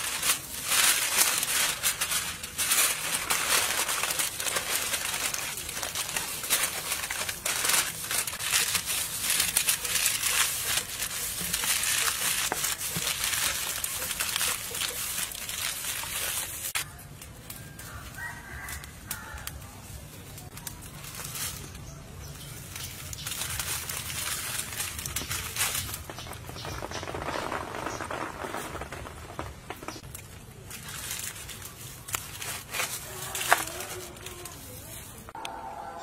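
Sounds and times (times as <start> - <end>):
aluminium foil crinkling: 0.0 - 35.4.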